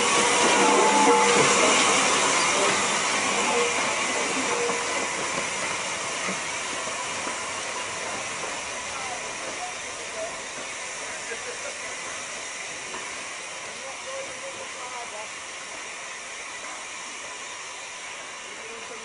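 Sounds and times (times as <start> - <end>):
steam locomotive hissing: 0.0 - 19.0.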